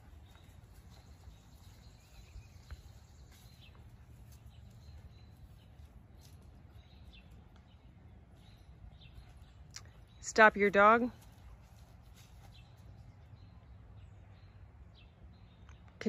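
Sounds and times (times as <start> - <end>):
distant bird chirps: 0.0 - 16.0.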